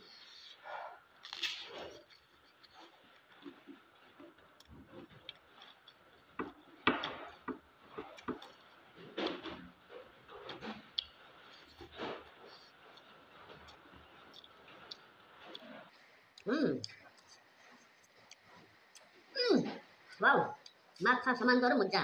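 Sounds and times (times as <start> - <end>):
chewing and lip-smacking: 0.1 - 21.0.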